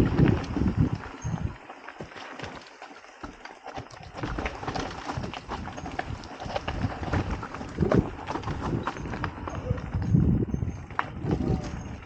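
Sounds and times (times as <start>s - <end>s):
mountain bike rattling over rough trail: 0.0s - 12.0s.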